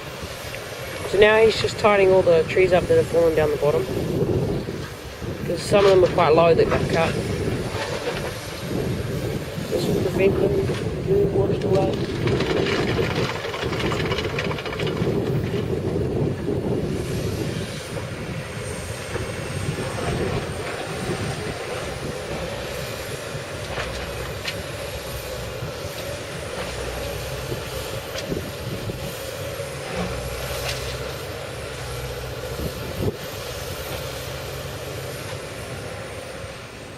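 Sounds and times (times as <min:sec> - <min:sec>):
excavator running: 0:00.0 - 0:36.9.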